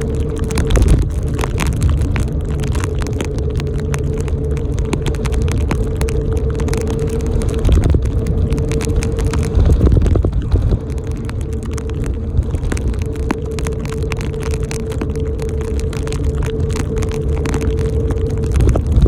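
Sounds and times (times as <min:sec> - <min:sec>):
bicycle riding rumble: 0:00.0 - 0:19.0.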